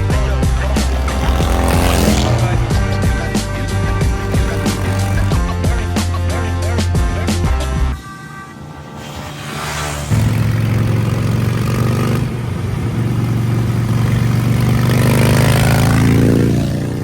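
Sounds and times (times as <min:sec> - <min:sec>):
motorcycle engine revving: 0:00.0 - 0:06.3, 0:08.7 - 0:17.0.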